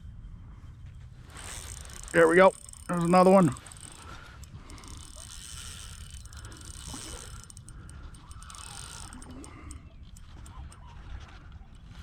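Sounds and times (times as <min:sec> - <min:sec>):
fishing reel clicking and ratcheting: 0:01.3 - 0:12.0.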